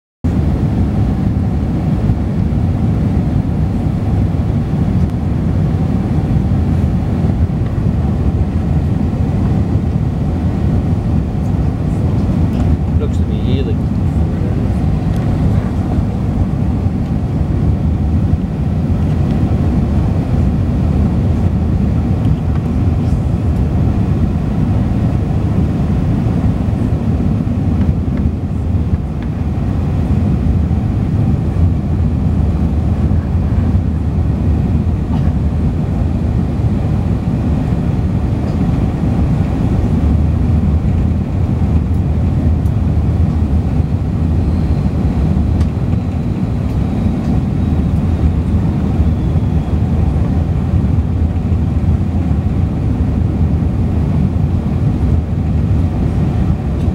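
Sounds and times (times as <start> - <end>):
aircraft cabin engine rumble: 0.2 - 56.9.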